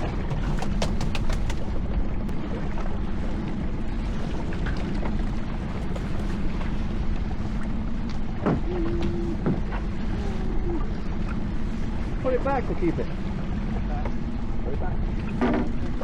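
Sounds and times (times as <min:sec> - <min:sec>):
low steady hum: 0:00.0 - 0:16.0
sea noise: 0:00.0 - 0:16.0
wind: 0:00.0 - 0:16.0.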